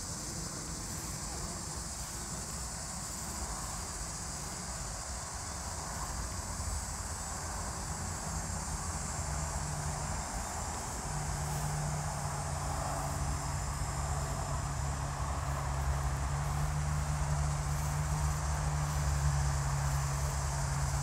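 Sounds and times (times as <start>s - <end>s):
distant traffic rumble: 0.0s - 21.0s
engine hum: 0.0s - 21.0s
insects chirring: 0.0s - 21.0s.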